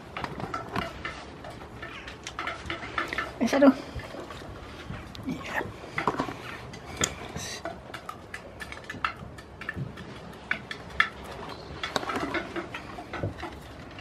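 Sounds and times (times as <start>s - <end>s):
hens pecking feed: 0.0s - 14.0s.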